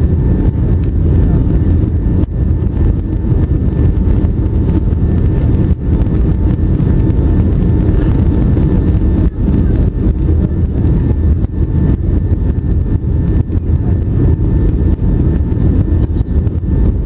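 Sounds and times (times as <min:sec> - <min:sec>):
faint steady whine: 0:00.0 - 0:17.0
jet engine and airflow roar: 0:00.0 - 0:17.0.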